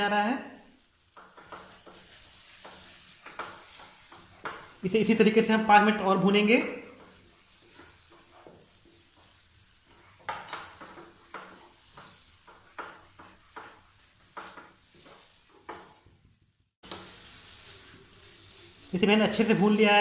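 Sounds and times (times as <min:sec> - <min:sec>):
faint frying hiss: 0:00.0 - 0:20.0
wooden spatula scraping a pan: 0:01.0 - 0:16.1, 0:16.9 - 0:20.0.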